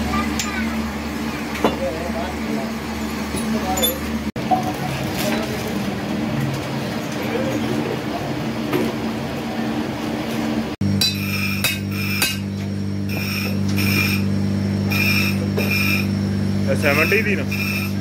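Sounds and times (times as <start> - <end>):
workshop machine hum: 0.0 - 18.0.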